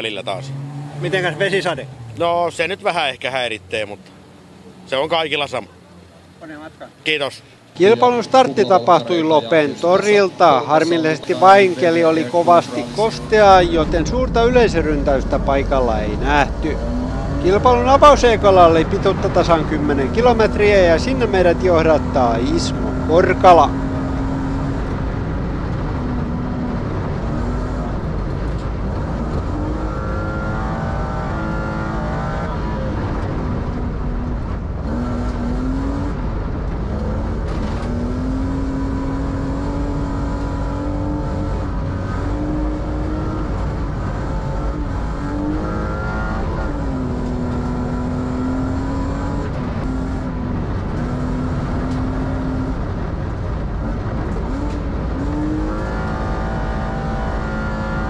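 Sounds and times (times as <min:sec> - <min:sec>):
rally car engine revving: 0:00.0 - 0:04.1, 0:07.8 - 0:58.0.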